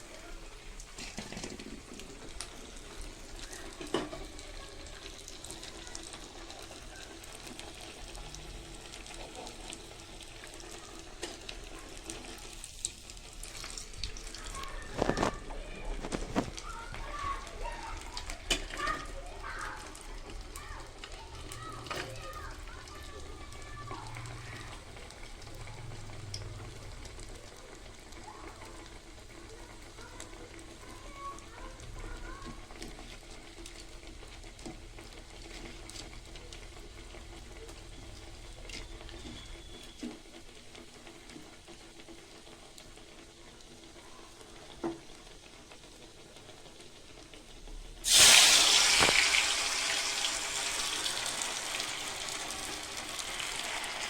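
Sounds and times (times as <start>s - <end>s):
cutlets frying in hot oil: 0.0s - 54.0s.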